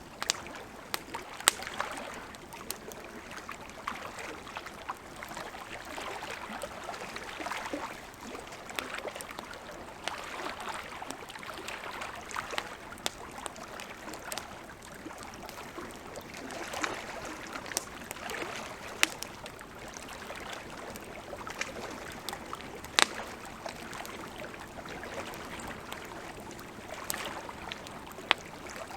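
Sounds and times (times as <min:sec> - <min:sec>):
campfire wood crackling and popping: 0:00.0 - 0:28.9
river water flowing: 0:00.0 - 0:28.9.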